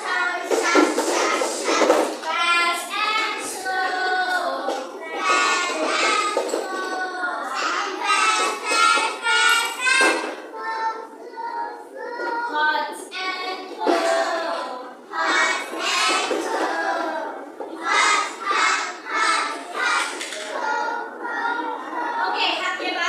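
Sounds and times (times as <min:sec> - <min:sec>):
young children singing: 0:00.0 - 0:23.0.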